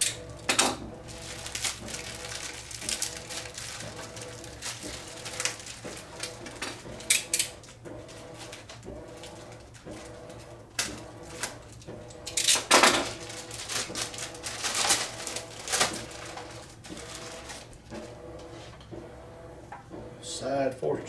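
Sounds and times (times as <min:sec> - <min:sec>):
packing tape and plastic rustling: 0:00.0 - 0:18.9.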